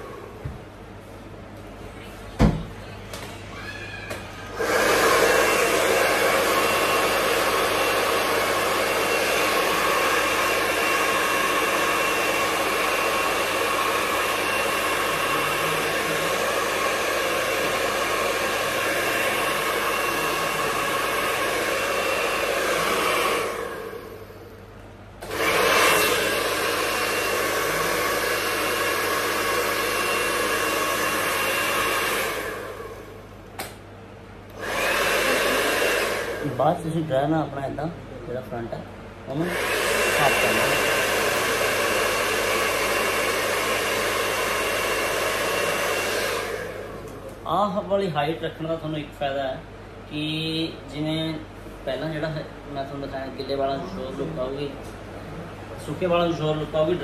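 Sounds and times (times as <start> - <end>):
hair dryer blowing air: 0.0 - 0.8, 2.4 - 57.0.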